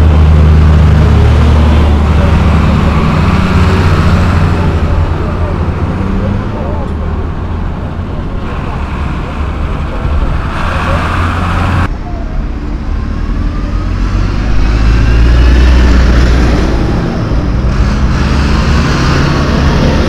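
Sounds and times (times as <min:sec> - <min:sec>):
tractor diesel engines humming: 0:00.0 - 0:20.0
tractor whine passing: 0:00.0 - 0:20.0.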